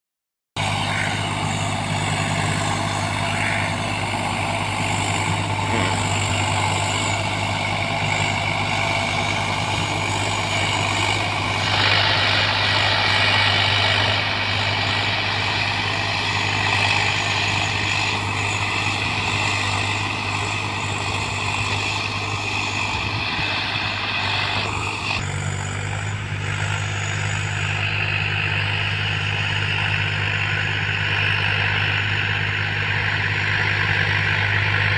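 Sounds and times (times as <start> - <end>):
harsher brighter engine layer: 0.6 - 34.9
tractor diesel engine running: 0.6 - 34.9.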